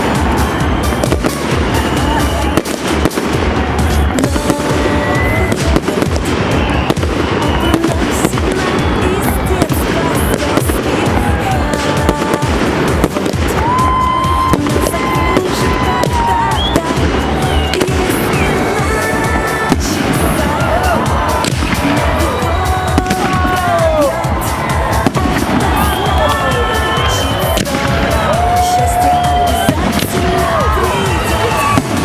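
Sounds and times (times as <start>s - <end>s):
fireworks crackling and popping: 0.0s - 32.0s
whistling fireworks: 0.0s - 32.0s.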